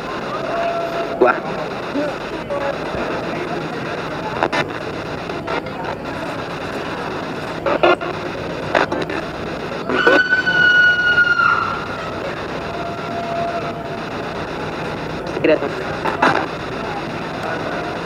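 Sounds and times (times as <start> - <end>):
radio clicks and bursts: 0.0 - 18.0
radio static hiss: 0.0 - 18.0
steady tone: 0.0 - 18.0.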